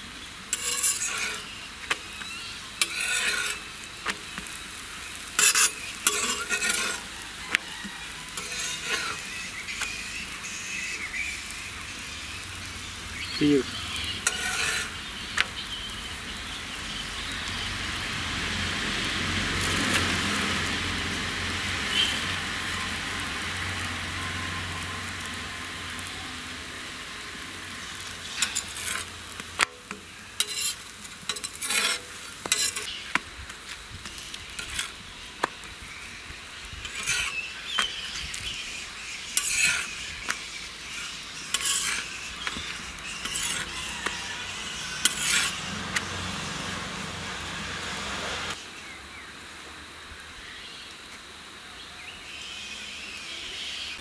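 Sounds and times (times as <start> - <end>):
flatbread sizzling in oil: 0.0 - 54.0
steel spatula scraping griddle: 0.2 - 17.6, 18.4 - 25.4, 26.7 - 48.6.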